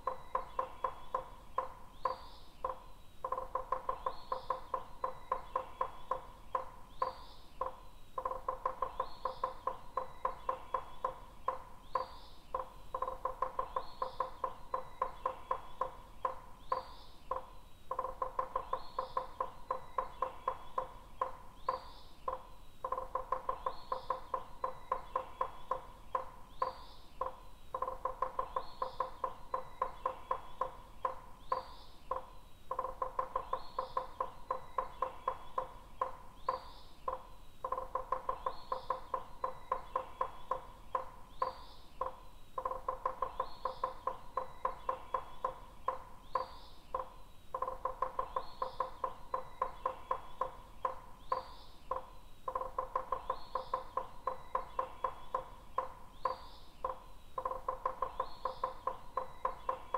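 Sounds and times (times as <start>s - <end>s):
rapid pulsing bird call: 0.0s - 59.9s.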